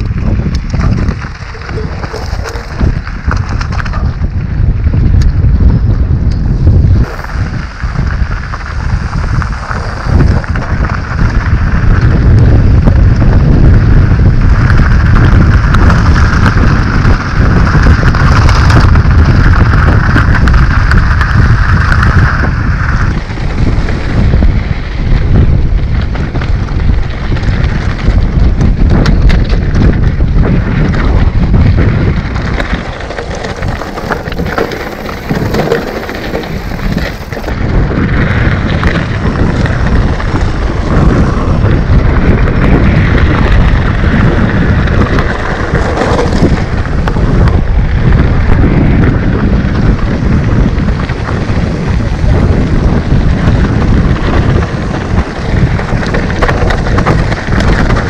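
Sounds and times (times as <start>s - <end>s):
tyres rumbling on loose stone: 0.0s - 5.1s, 6.2s - 58.0s
bike rattling over rocks: 0.0s - 58.0s
wind buffeting microphone: 0.0s - 58.0s.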